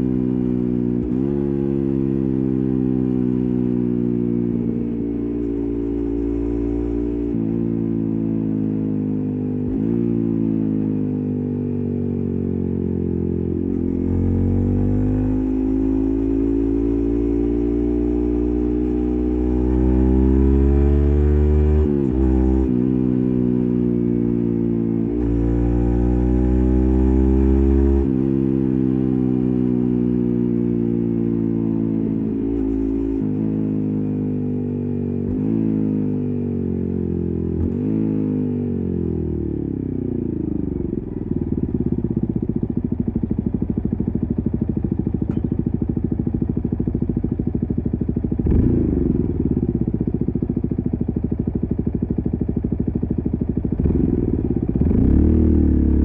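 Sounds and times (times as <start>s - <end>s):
motorcycle engine revving and idling: 0.0s - 56.0s.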